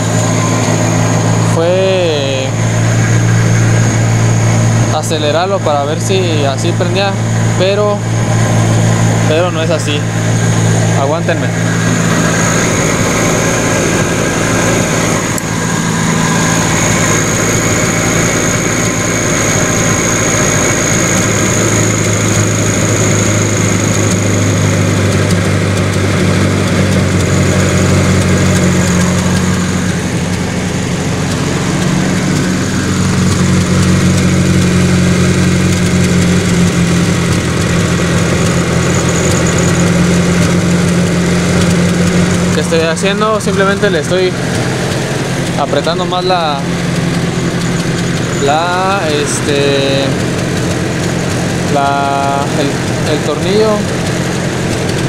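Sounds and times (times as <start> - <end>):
car engine fast idle: 0.0 - 55.0.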